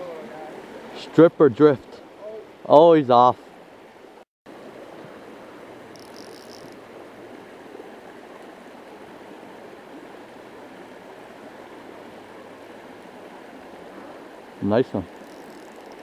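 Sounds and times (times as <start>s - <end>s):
stream flowing over gravel: 3.2s - 16.0s.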